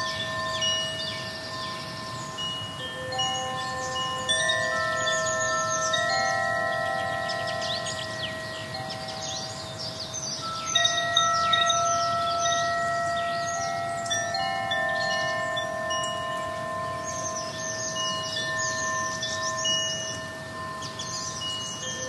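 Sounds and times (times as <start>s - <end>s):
wind chimes ringing: 0.0s - 22.0s.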